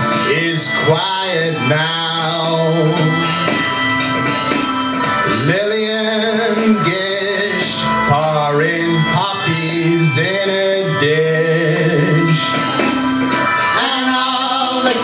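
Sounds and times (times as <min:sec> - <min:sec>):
accompanying music: 0:00.0 - 0:15.0.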